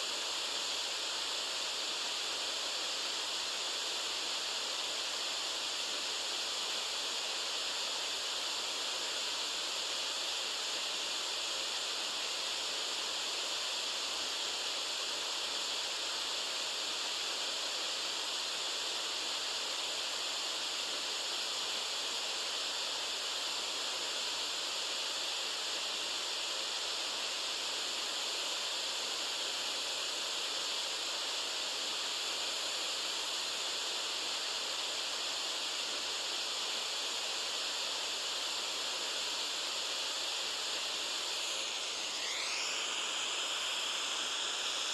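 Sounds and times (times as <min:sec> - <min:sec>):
white noise hiss: 0:00.0 - 0:44.9.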